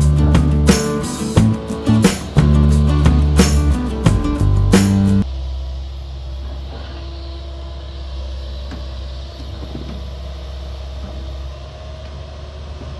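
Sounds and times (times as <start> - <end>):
excavator diesel engine rumbling: 0.0 - 12.3.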